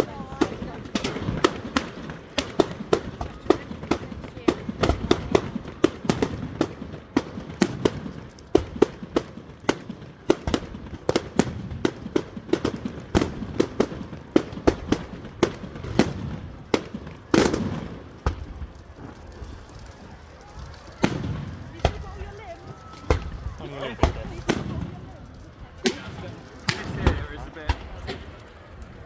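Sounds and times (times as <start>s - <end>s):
firecrackers banging: 0.0s - 29.0s.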